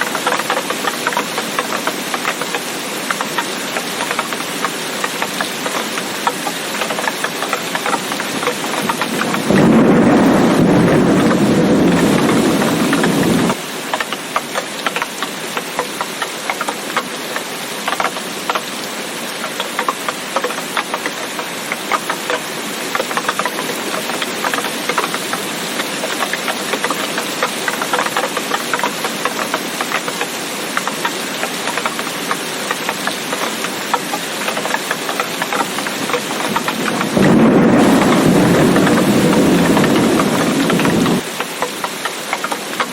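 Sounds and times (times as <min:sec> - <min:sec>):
steady rain patter: 0:00.0 - 0:42.9.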